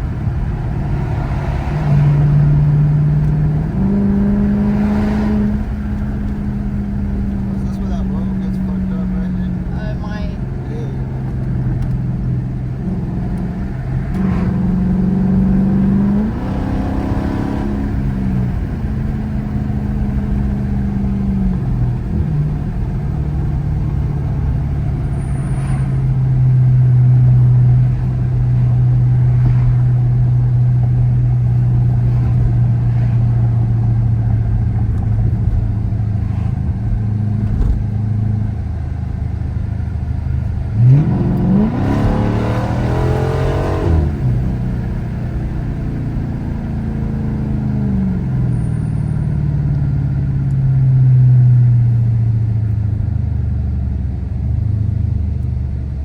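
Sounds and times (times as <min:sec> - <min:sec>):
car engine cruising: 0:00.0 - 0:56.0.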